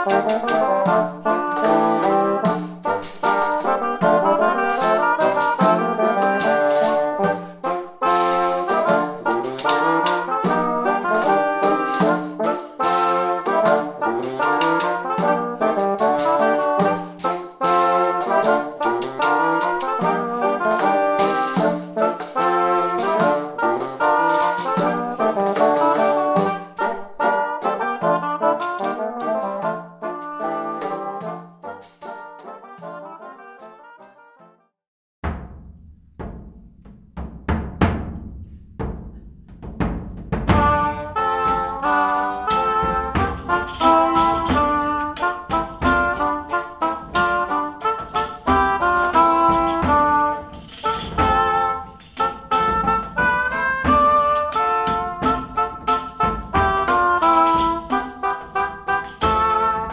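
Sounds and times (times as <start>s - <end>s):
percussion beat: 0.0s - 34.2s, 35.2s - 59.9s
double-reed band playing: 0.0s - 34.5s, 40.4s - 59.9s.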